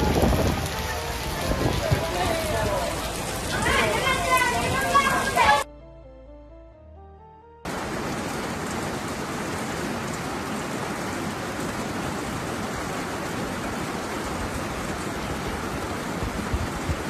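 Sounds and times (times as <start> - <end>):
heavy rain pouring: 0.0 - 5.7, 7.7 - 17.0.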